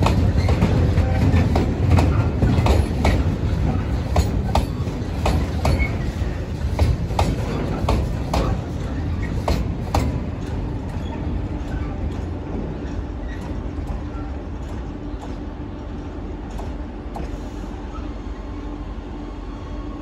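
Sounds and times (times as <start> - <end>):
train wheel clicks: 0.0 - 17.6
electric locomotive hum: 0.0 - 20.0
freight train rumbling past: 0.0 - 20.0.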